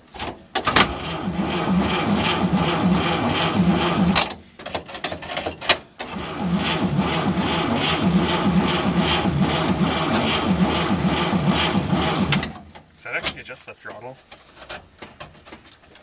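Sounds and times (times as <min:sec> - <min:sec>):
engine cranking by starter: 0:00.2 - 0:13.4.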